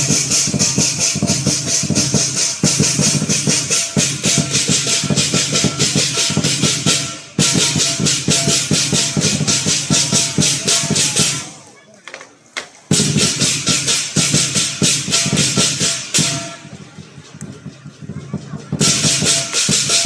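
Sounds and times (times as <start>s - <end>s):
clashing cymbals: 0.0s - 11.6s, 12.9s - 17.8s, 18.8s - 20.0s
big drum beating fast rhythm: 0.0s - 11.7s, 12.9s - 20.0s.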